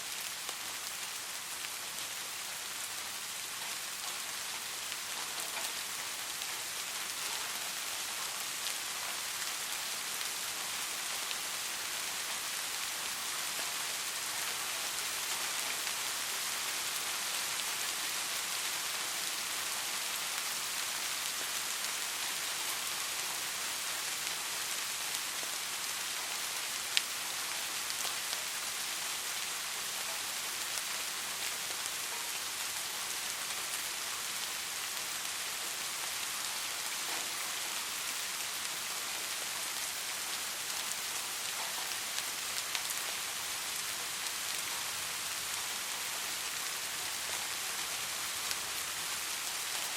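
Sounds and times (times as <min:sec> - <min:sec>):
soft rain falling: 0:00.0 - 0:49.9.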